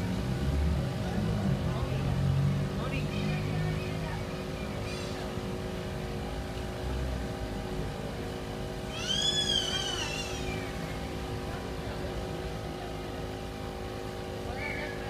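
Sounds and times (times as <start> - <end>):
street hum: 0.0 - 15.0.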